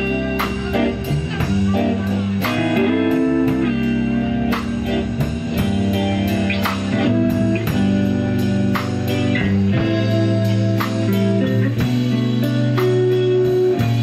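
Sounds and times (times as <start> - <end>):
drum kit: 0.0 - 14.0
electric guitar sustained notes: 0.0 - 14.0.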